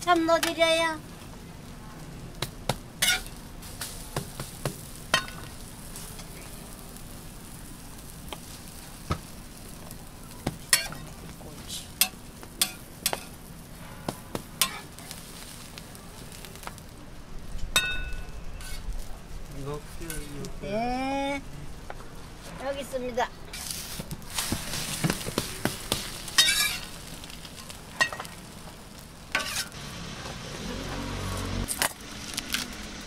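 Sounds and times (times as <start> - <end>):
omelette sizzling on a griddle: 0.0 - 33.0.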